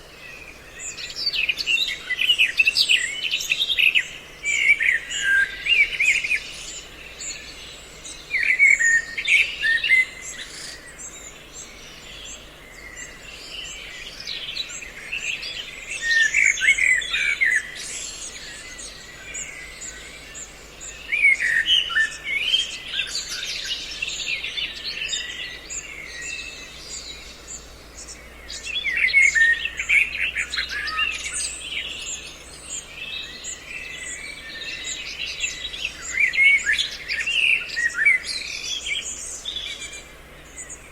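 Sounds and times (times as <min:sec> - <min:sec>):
quiet bird twittering: 0:00.0 - 0:40.9
songbirds chirping: 0:00.0 - 0:40.9.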